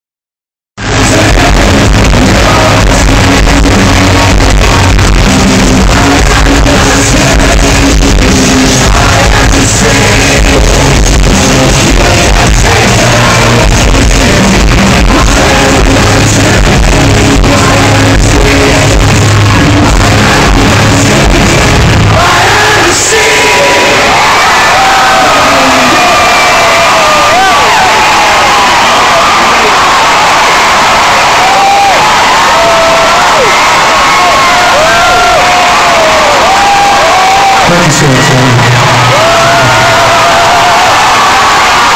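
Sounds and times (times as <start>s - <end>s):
crowd cheering and shouting: 0.8s - 41.9s
distorted live rock band: 0.8s - 41.9s.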